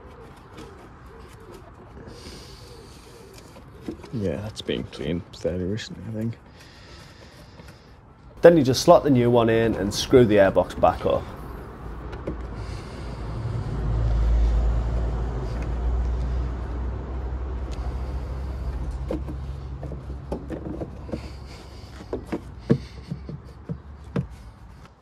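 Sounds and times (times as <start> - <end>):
low vehicle engine rumble: 0.0 - 25.0.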